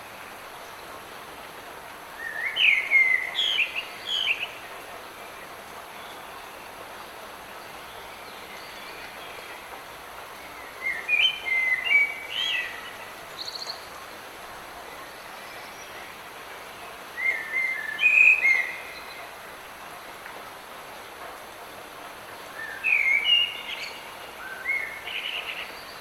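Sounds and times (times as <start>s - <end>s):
light rain hissing: 0.0s - 26.0s.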